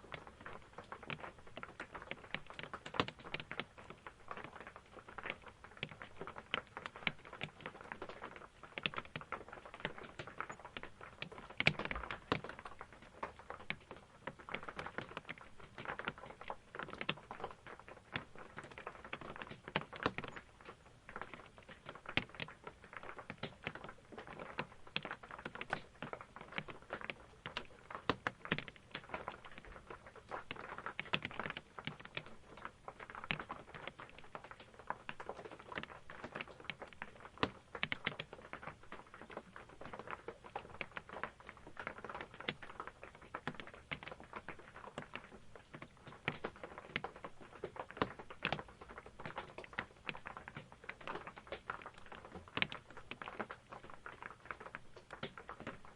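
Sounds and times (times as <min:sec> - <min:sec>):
rain drumming on a roof: 0:00.0 - 0:55.9.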